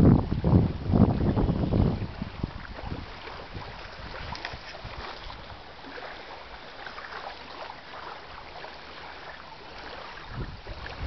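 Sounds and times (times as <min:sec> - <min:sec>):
water on lake: 0:00.0 - 0:11.0.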